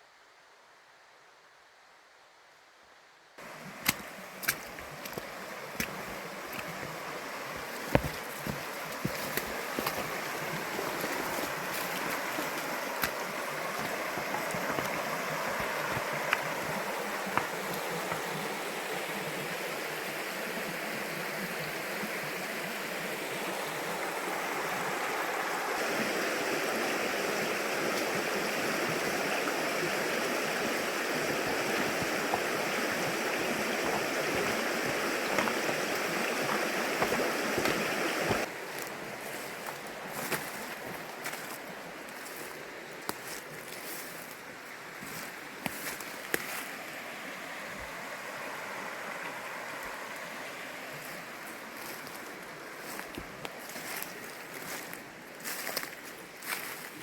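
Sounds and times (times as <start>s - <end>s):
rushing water: 3.4s - 57.0s.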